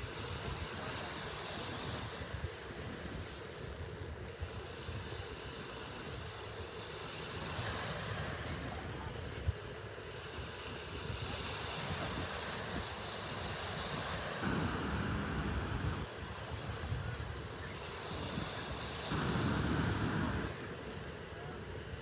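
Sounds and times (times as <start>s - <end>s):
small surf washing: 0.0s - 22.0s
wind rumbling on microphone: 0.0s - 22.0s.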